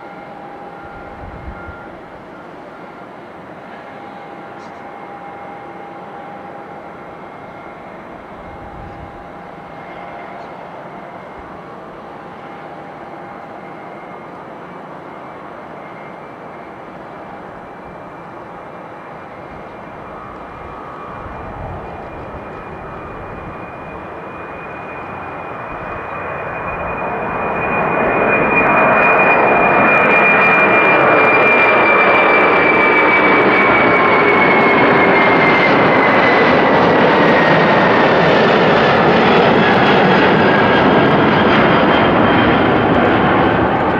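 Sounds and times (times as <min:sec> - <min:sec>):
jet engines roaring with high whine: 0:00.0 - 0:43.9.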